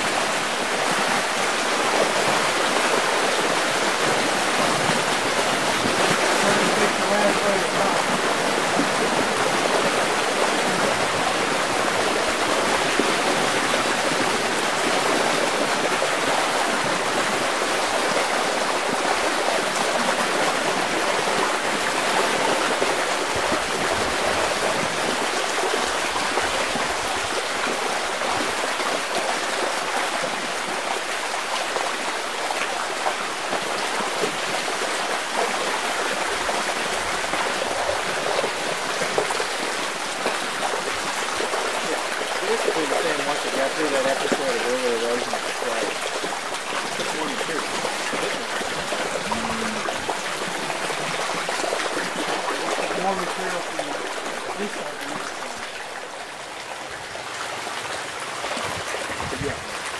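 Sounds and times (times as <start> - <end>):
floodwater rushing: 0.0 - 59.9.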